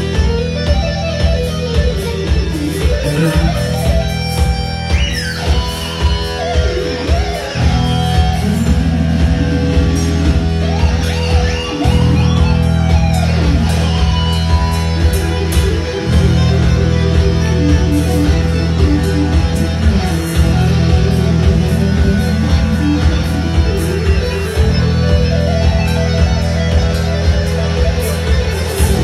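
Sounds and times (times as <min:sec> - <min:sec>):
electric guitar solo: 0:00.0 - 0:29.0
low bass: 0:00.0 - 0:29.0
drum hits: 0:01.3 - 0:24.8.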